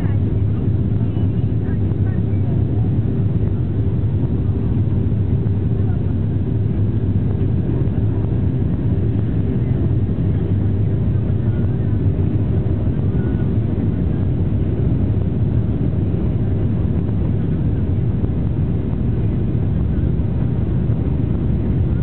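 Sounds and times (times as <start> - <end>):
jet engines rumbling in cabin: 0.0 - 22.0.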